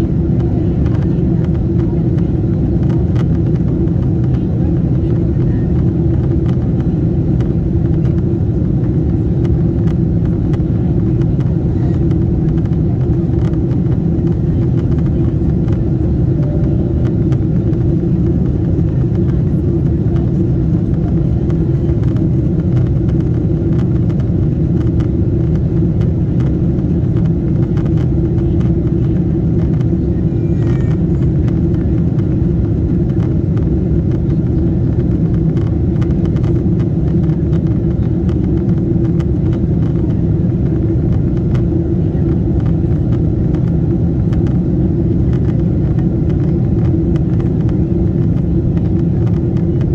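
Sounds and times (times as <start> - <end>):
airliner engines rumbling: 0.0 - 49.9.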